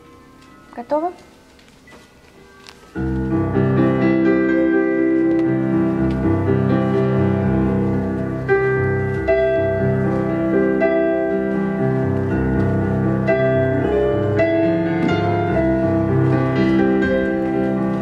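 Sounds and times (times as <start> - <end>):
solo piano chords: 0.0 - 1.4, 2.9 - 18.0.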